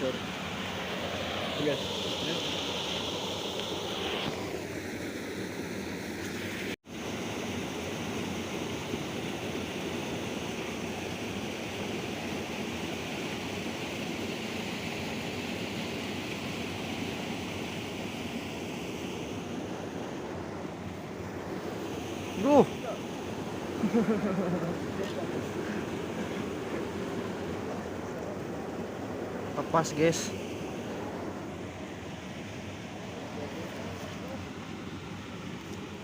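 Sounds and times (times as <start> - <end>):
river water rushing: 6.4 - 36.0.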